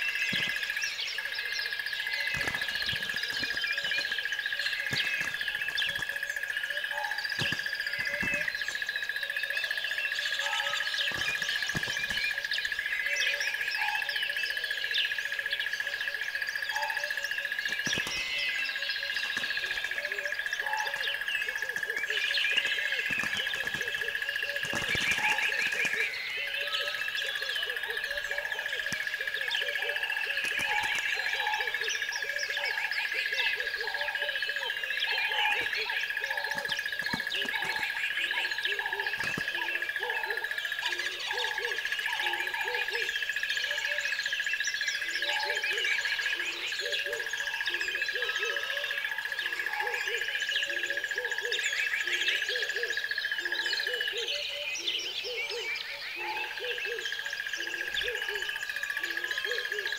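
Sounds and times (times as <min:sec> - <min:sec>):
low repeating calls: 0:00.0 - 0:59.9
small birds chirping: 0:00.0 - 0:59.9.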